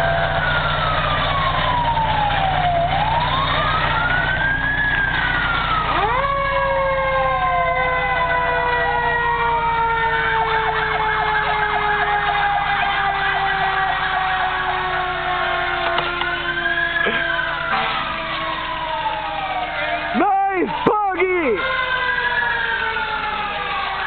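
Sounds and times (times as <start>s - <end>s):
low engine rumble: 0.0s - 24.0s
sweeping siren tone: 0.0s - 24.0s
wailing siren: 0.0s - 24.0s.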